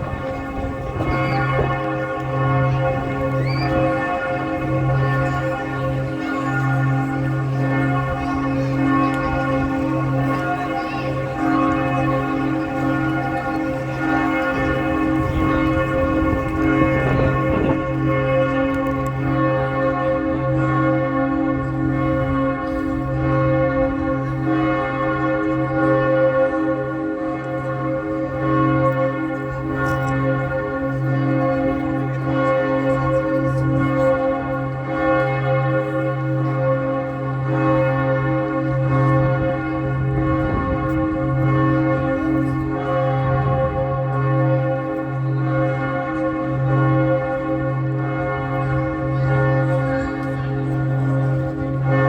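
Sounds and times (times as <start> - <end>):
large church bells ringing: 0.0 - 52.0.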